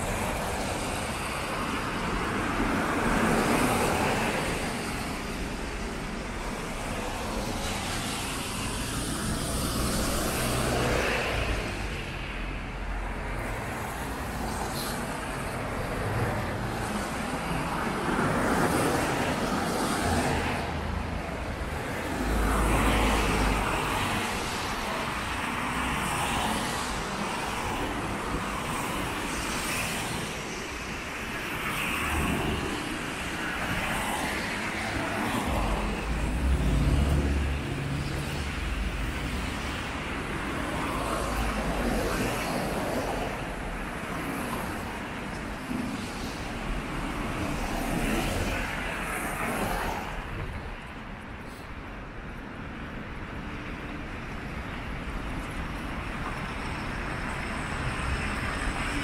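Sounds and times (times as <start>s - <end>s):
cars passing on wet road: 0.0s - 59.0s
steady traffic hiss: 0.0s - 59.0s.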